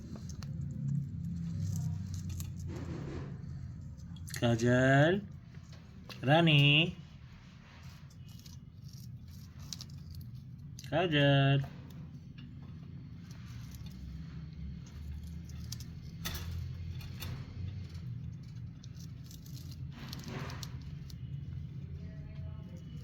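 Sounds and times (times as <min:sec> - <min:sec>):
faint rattling and rustling: 0:00.0 - 0:23.0
steady low hum: 0:00.0 - 0:23.0.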